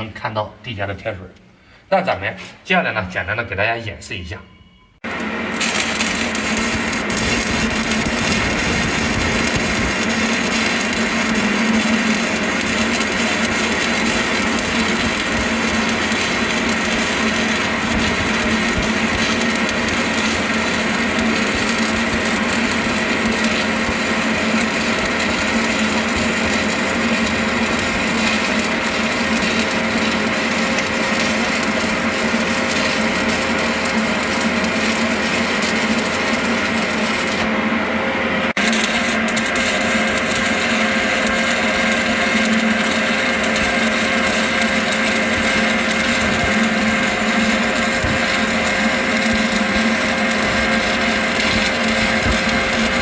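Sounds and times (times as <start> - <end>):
welding arc crackling hiss: 5.1 - 37.8, 38.5 - 53.0.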